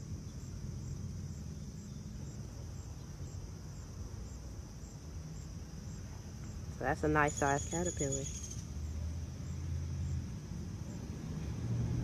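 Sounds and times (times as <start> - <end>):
continuous low rumble: 0.0 - 12.0
insects trilling: 0.0 - 12.0.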